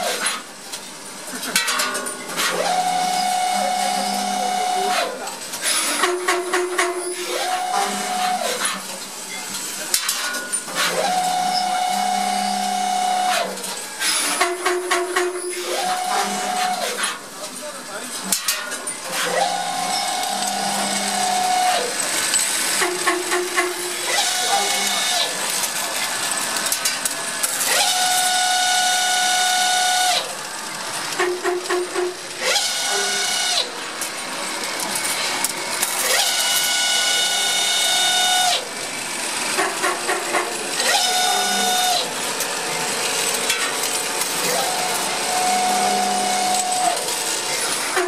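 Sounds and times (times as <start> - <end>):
machine whine: 2.3 - 48.0.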